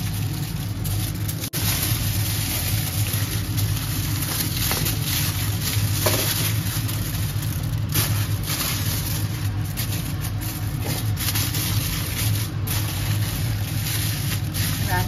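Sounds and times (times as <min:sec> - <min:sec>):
aluminium foil crinkling: 0:00.0 - 0:15.0
low mechanical hum: 0:00.0 - 0:15.0.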